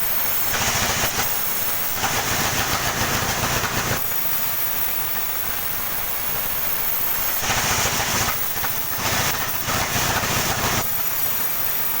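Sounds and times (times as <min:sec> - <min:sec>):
saw cutting through log: 0:00.0 - 0:12.0
sawmill humming: 0:00.0 - 0:12.0.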